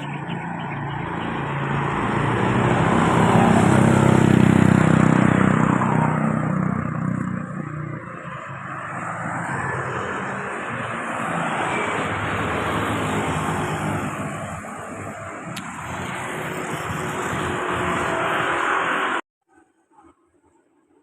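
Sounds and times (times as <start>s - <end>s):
vehicle engine passing by: 0.0s - 19.2s.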